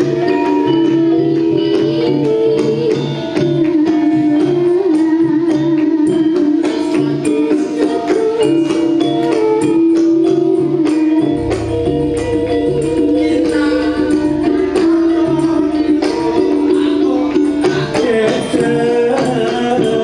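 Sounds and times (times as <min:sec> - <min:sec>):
gamelan ensemble music: 0:00.0 - 0:20.0
hand drums: 0:00.0 - 0:20.0
struck metallophones: 0:00.0 - 0:20.0.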